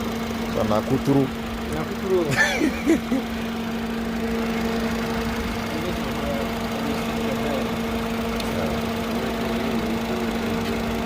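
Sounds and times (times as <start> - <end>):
car engine idling: 0.0 - 11.0
radiator cooling fan running: 0.0 - 11.0.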